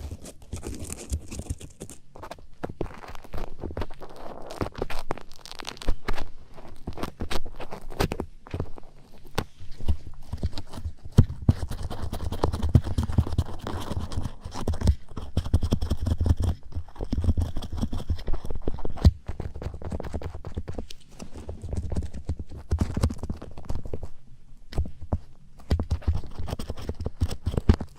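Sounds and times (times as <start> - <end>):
ear tool rubbing and scratching: 0.0 - 24.2, 24.8 - 27.9.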